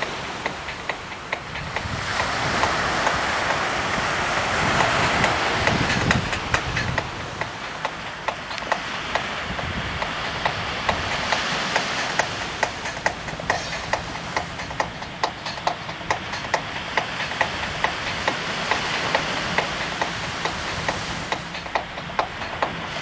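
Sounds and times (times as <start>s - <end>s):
regular sharp clicking: 0.0s - 23.0s
sea waves washing on shore: 0.0s - 23.0s.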